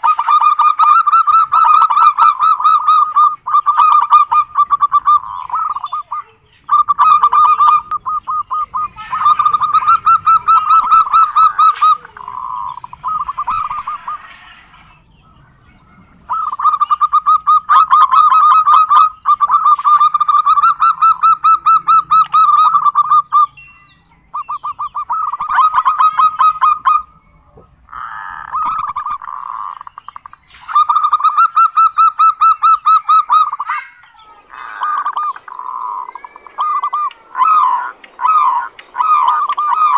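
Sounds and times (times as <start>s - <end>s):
dove rattling call: 0.0s - 39.9s.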